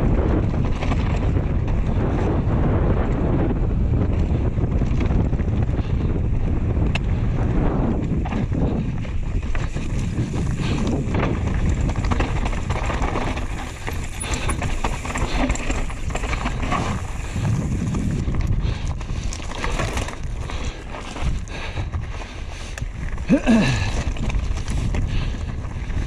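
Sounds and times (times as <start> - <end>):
bike chain and frame rattling: 0.0 - 26.0
bike tyres crunching over stones: 0.0 - 26.0
low wind rumble on microphone: 0.0 - 26.0.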